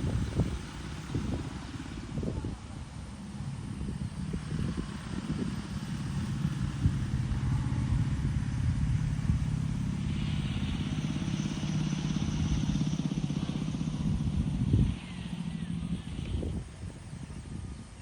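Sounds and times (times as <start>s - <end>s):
high steady hiss: 0.0s - 18.0s
vehicle engine running: 0.0s - 18.0s.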